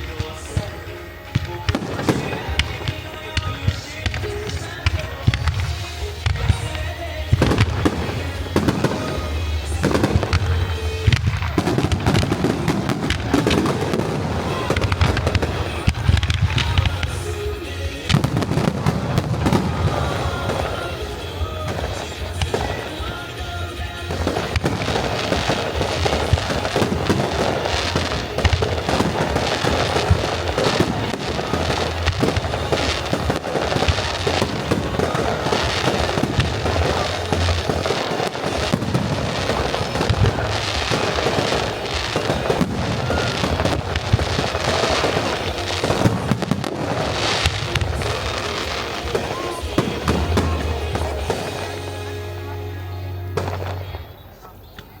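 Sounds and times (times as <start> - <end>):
fireworks bursting and crackling: 0.0 - 55.0
music: 0.0 - 55.0.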